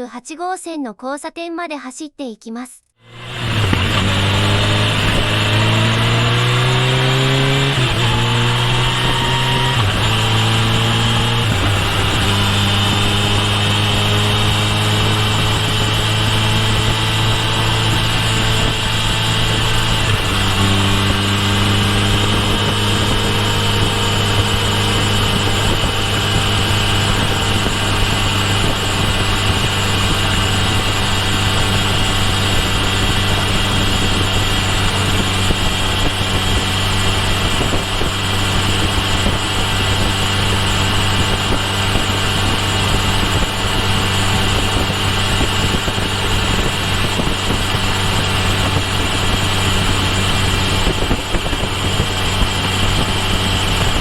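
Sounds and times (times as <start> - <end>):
high whine: 3.0 - 54.0
motorcycle engine running: 3.0 - 54.0.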